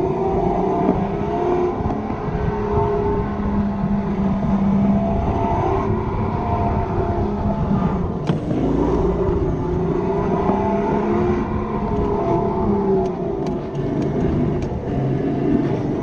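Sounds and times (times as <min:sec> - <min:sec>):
electric motor whine: 0:00.0 - 0:16.0
wind and track rumble: 0:00.0 - 0:16.0.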